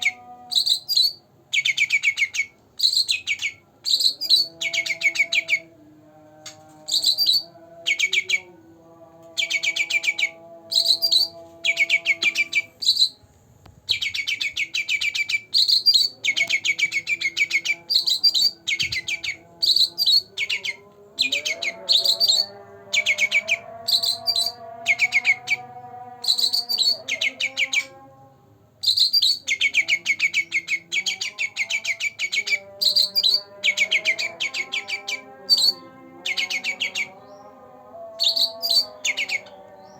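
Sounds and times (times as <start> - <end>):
songbird trilling: 0.0 - 5.7, 6.4 - 8.5, 9.4 - 13.2, 13.9 - 28.0, 28.8 - 37.5, 38.2 - 39.9.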